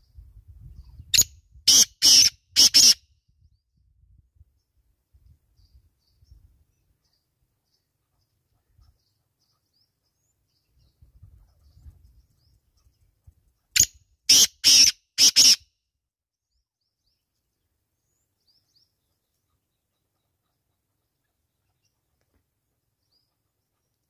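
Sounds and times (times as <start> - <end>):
small birds chirping: 0.0 - 15.6, 16.5 - 24.0.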